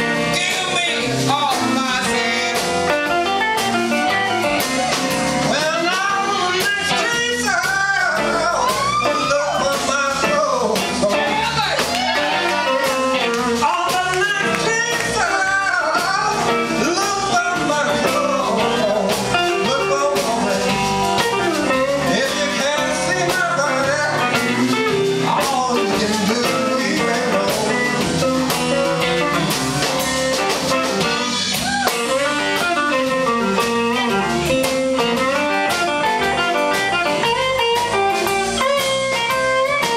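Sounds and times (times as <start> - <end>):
man singing: 0.0 - 3.4, 5.0 - 39.9
blues band playing: 0.0 - 39.9.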